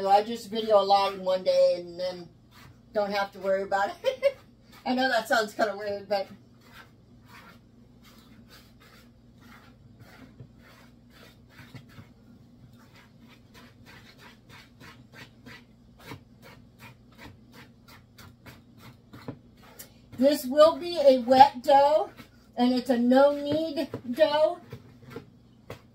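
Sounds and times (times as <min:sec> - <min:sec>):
whisk scraping dough in bowl: 0:00.0 - 0:25.9.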